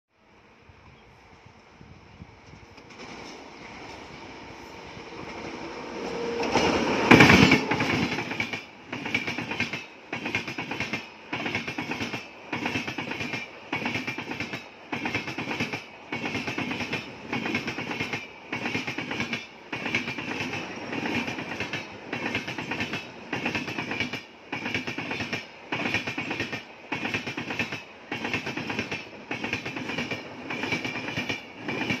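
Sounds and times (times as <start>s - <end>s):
train wheel noise burst: 2.4s - 32.0s
rhythmic train wheel clatter: 5.1s - 32.0s.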